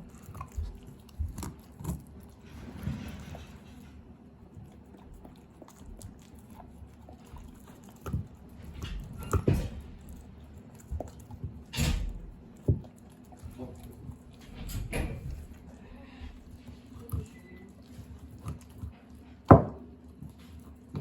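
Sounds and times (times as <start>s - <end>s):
dog gnawing a bone: 0.0s - 21.0s.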